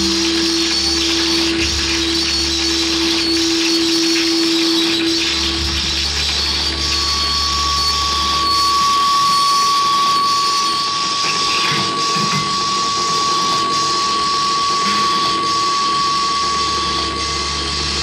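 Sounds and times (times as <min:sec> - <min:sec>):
steady high electronic tone: 0:00.0 - 0:18.0.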